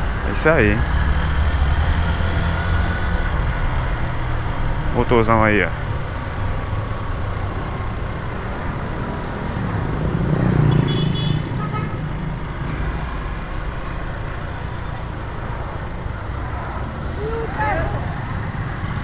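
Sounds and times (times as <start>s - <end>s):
low rumble of passing vehicle: 0.0s - 19.0s
motorcycle engine running: 0.0s - 19.0s
road and wind noise: 0.0s - 19.0s.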